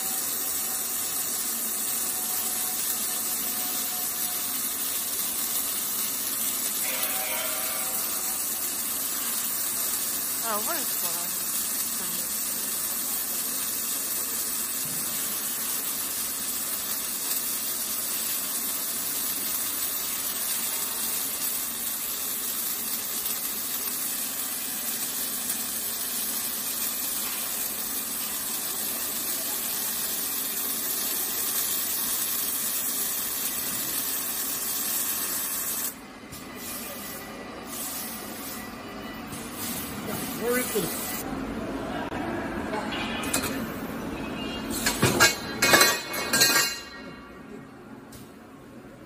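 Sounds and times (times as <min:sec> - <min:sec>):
welding torches hissing: 0:00.0 - 0:41.3.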